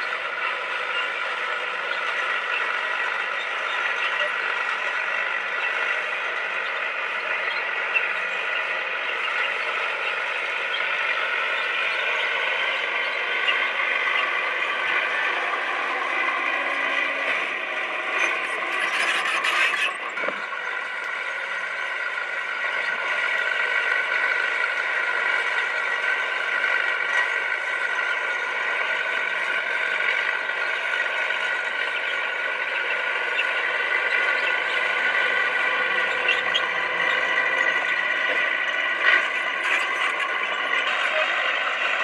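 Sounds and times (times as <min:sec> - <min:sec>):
bulldozer running: 0:00.0 - 0:42.0.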